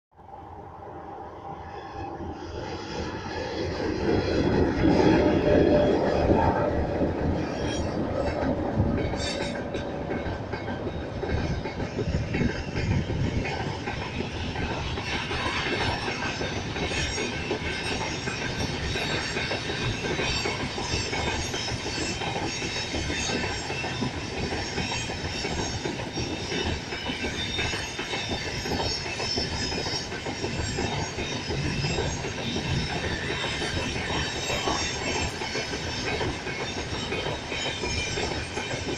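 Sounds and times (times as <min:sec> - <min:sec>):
electric locomotive passing: 0:00.2 - 0:38.9.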